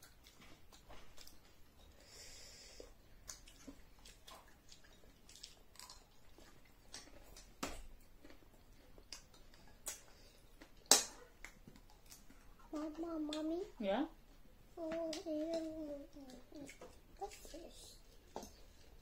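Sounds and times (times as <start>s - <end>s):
faint crunchy chewing: 0.0s - 19.0s.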